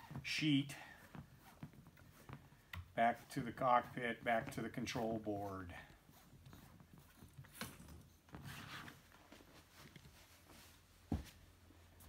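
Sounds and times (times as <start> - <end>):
rope rustling and handling: 0.0 - 12.0.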